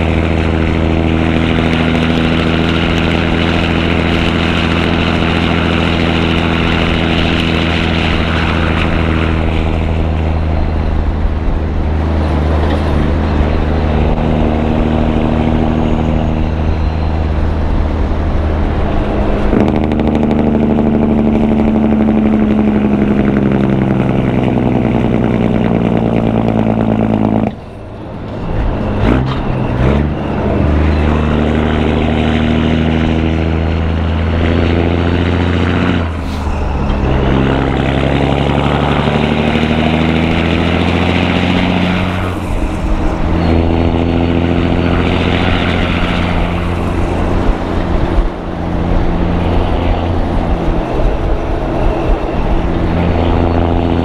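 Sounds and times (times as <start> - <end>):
diesel truck exhaust note: 0.0 - 54.0.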